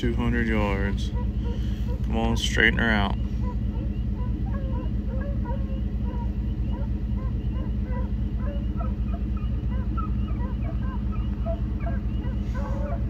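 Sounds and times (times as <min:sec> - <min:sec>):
hounds baying: 0:00.0 - 0:13.0
vehicle engine idling: 0:00.0 - 0:13.0.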